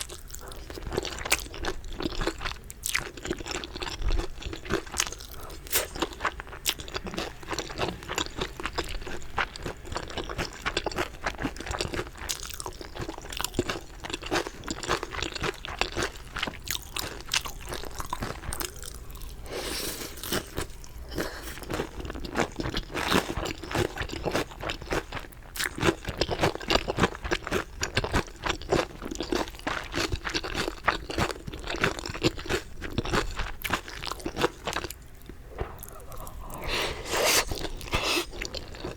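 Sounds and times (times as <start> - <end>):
crunchy chicken chewing: 0.0 - 38.9.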